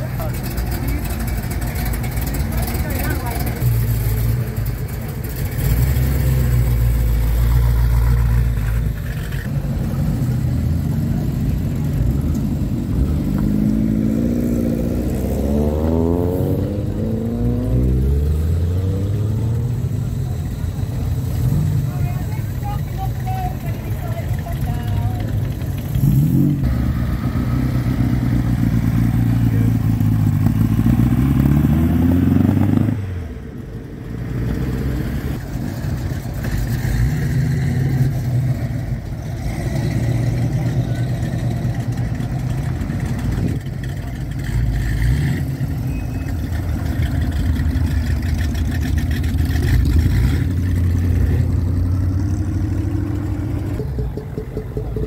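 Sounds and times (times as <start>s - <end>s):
car engines pulling away: 0.0s - 55.0s
cars passing: 0.0s - 55.0s.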